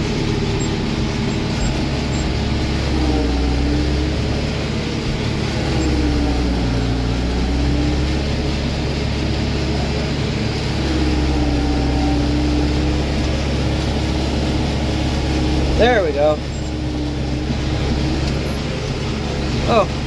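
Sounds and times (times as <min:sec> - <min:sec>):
forage harvester whining: 0:00.0 - 0:20.0
tractor engine droning: 0:00.0 - 0:20.0.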